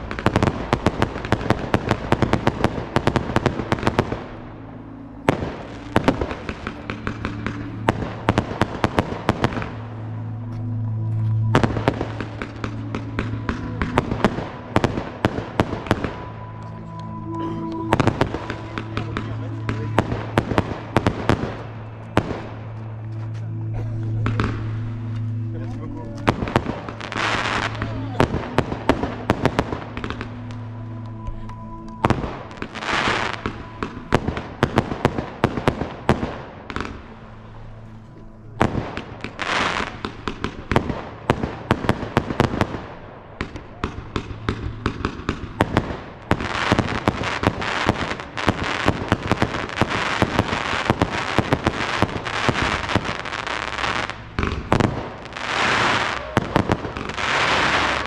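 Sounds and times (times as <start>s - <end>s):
fireworks bangs: 0.0s - 37.8s, 38.4s - 58.0s
fireworks crackling hiss: 0.0s - 58.0s.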